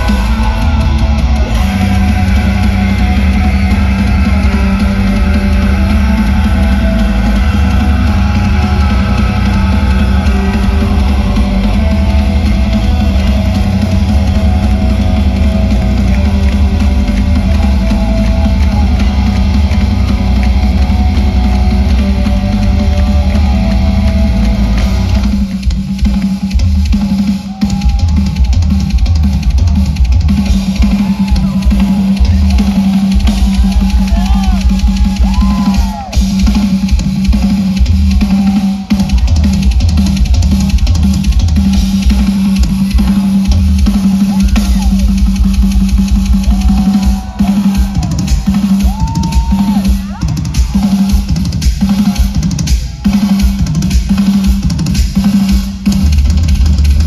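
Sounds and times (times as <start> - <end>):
drum solo: 0.0 - 57.0
live metal band: 0.0 - 57.0.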